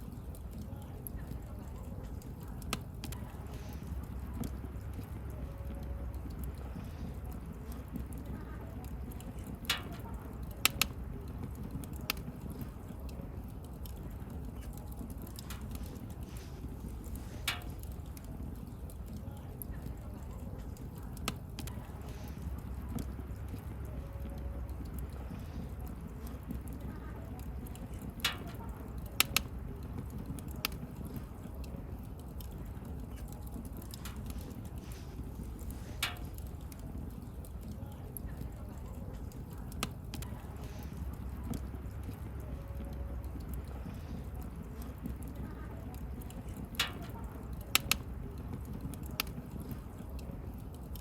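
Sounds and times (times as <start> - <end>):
bonfire pops and snaps: 0.0 - 51.0
low rumble of burning fire: 0.0 - 51.0.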